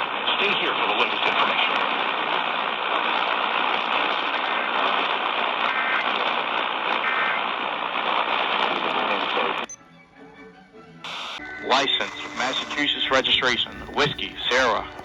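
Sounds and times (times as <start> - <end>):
radio static hiss: 0.0 - 9.7, 11.1 - 15.0.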